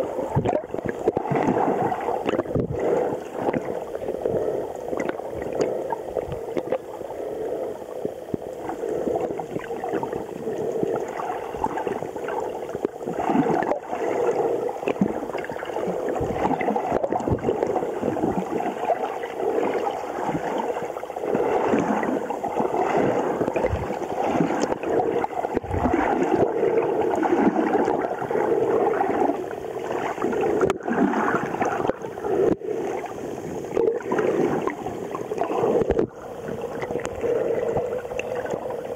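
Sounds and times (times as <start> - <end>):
underwater sloshing and gurgling: 0.0 - 38.9.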